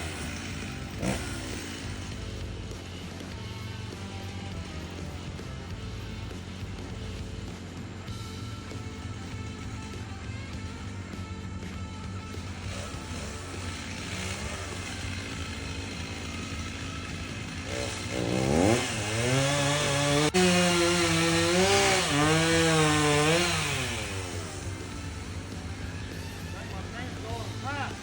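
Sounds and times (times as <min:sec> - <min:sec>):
low engine hum: 0:00.0 - 0:20.4, 0:21.0 - 0:28.0
chainsaw revving: 0:00.0 - 0:28.0.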